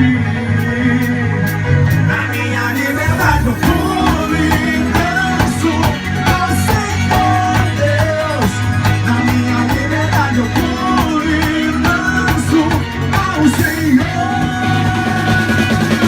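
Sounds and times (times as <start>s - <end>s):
band playing pop-rock song: 0.0s - 16.0s.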